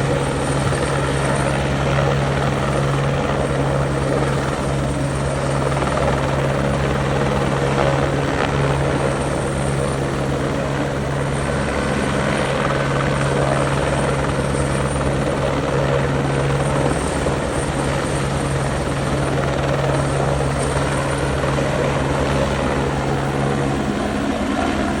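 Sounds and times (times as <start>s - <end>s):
helicopter overhead: 0.0s - 25.0s.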